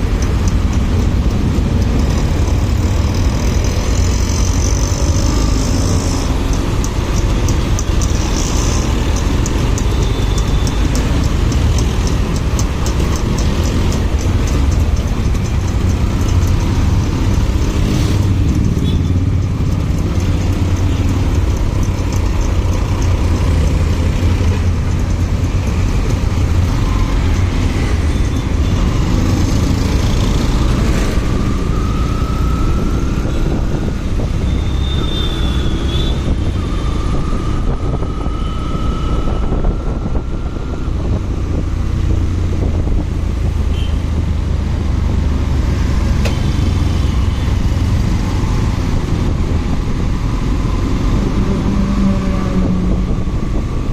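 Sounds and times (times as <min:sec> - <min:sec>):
vehicle speeding up whine: 0:00.0 - 0:43.6, 0:44.8 - 0:53.9
motorcycle engine rumble: 0:00.0 - 0:53.9
road and wind noise: 0:00.0 - 0:53.9.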